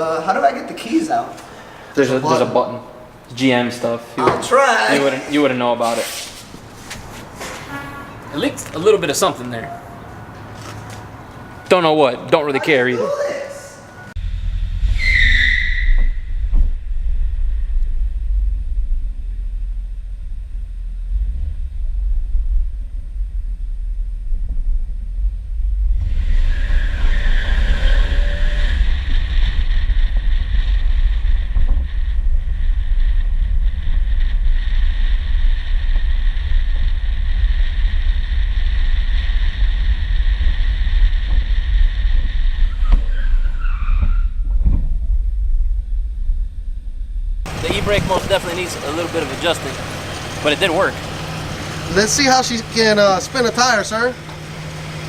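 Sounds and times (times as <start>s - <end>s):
tire squealing: 4.5s - 45.4s, 47.4s - 55.0s
car engine rumbling: 6.4s - 55.0s.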